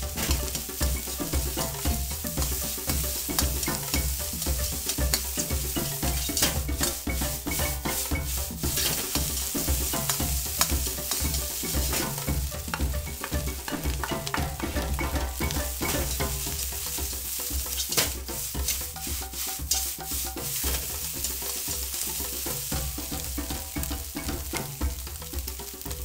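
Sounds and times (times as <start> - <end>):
rice sizzling in hot oil: 0.0 - 26.0
utensils scraping and knocking a wok: 0.0 - 26.0.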